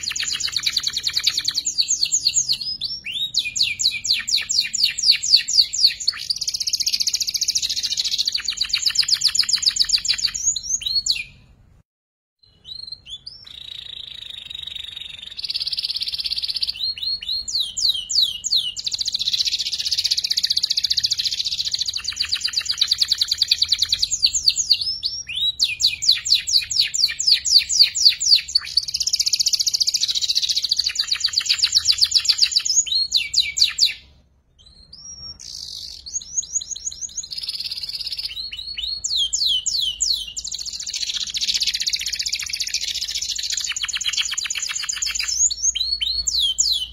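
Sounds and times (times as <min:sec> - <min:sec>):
canary singing trills: 0:00.0 - 0:11.5, 0:12.4 - 0:46.9.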